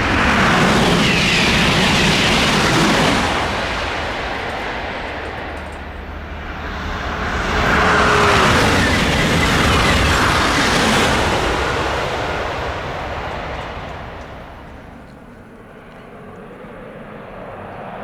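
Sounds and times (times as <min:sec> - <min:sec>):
train passing with whoosh: 0:00.0 - 0:18.0.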